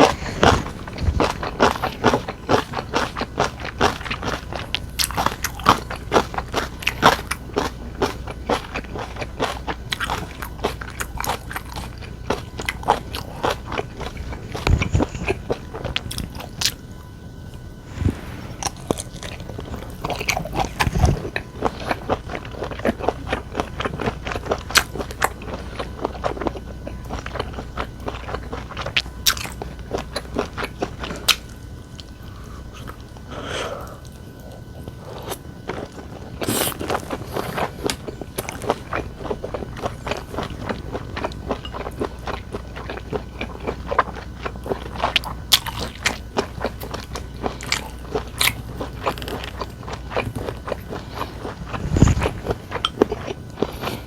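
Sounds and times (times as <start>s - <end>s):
mouth clicks and crunches: 0.0s - 16.8s, 17.5s - 54.0s
chewing and biting food: 0.0s - 54.0s.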